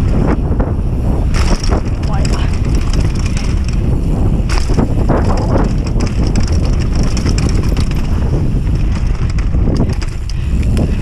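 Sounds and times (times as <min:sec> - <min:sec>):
bike rattling: 0:00.0 - 0:11.0
wind rumble on microphone: 0:00.0 - 0:11.0
tyres crackling over stones: 0:01.3 - 0:11.0.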